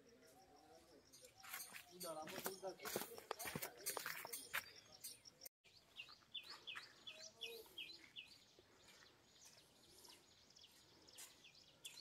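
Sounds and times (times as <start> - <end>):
bird chirping: 0.0 - 12.0
quiet outdoor ambience: 0.0 - 12.0.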